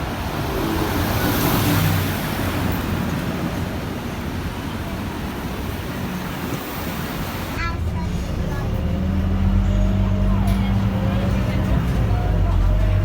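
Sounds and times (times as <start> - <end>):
bus engine running: 0.0 - 13.0
road and traffic noise: 0.0 - 13.0.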